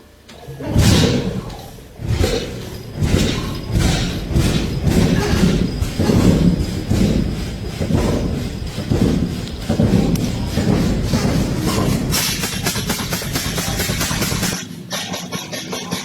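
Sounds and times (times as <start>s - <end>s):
old engine thumping: 0.3s - 14.6s.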